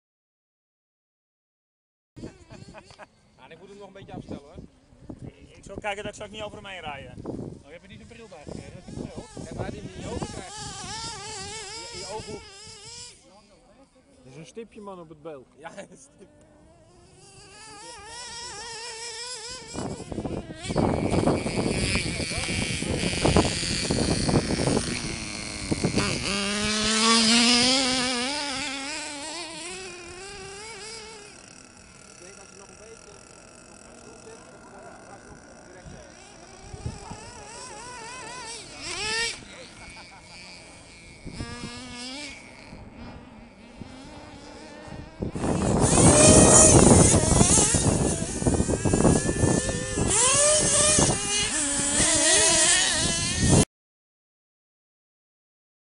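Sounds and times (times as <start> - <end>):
toy truck motor buzzing: 2.2 - 3.4, 5.9 - 15.1, 15.7 - 53.7
small nitro engines revving: 2.2 - 53.7.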